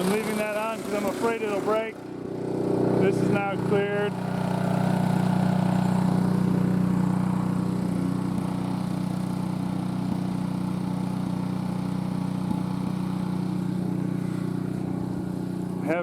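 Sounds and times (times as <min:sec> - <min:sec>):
snowblower engine humming: 0:00.0 - 0:16.0.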